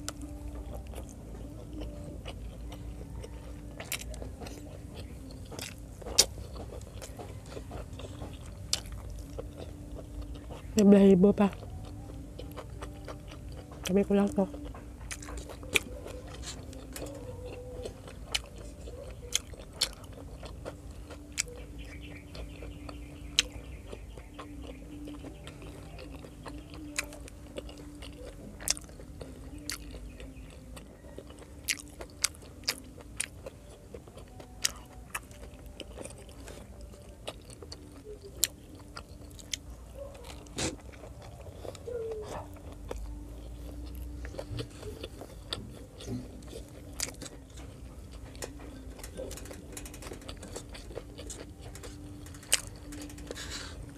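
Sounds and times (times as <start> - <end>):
close chewing: 0.0 - 53.9.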